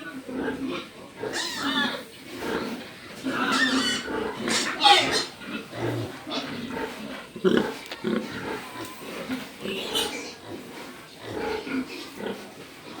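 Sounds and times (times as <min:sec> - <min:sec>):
pig grunting: 0:00.0 - 0:13.0.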